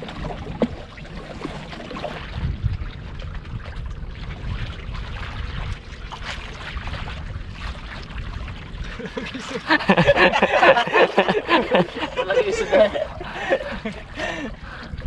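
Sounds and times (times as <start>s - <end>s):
water splashing and trickling: 0.0s - 15.0s
wind rumble on microphone: 0.0s - 15.0s.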